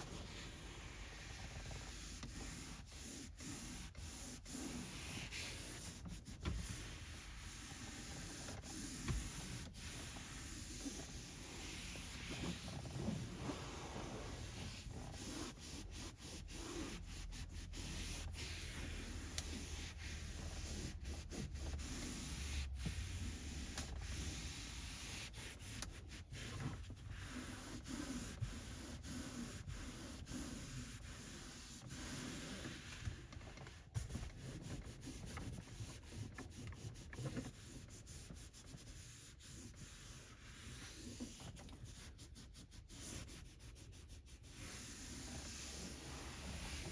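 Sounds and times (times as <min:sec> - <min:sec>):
cloth wiping surfaces: 0:00.0 - 0:46.9.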